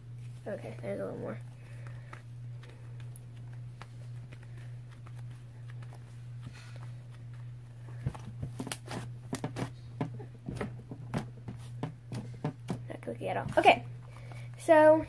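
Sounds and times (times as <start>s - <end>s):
steady low hum: 0.0s - 15.0s
slime squishing: 0.1s - 14.9s.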